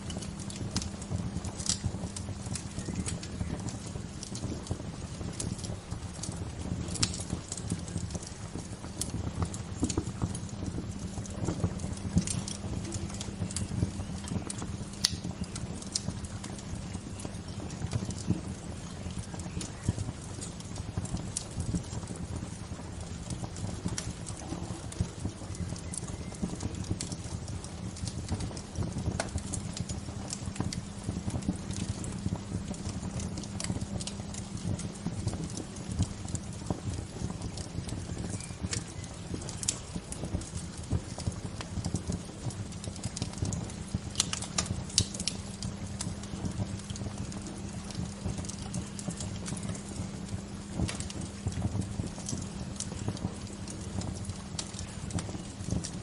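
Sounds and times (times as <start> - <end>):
bonfire crackling and popping: 0.0 - 56.0.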